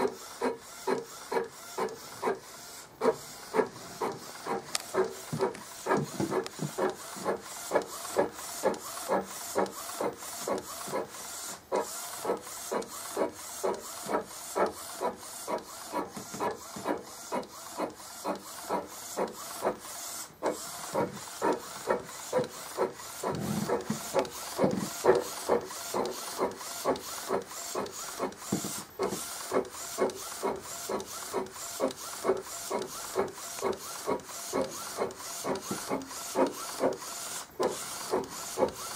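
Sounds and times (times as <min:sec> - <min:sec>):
printer mechanism pulsing: 0:00.0 - 0:38.9.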